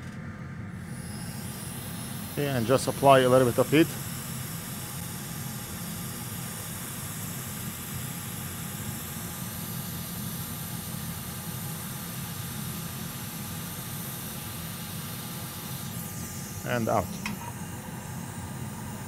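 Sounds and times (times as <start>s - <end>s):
fan humming and hissing: 0.0s - 19.0s.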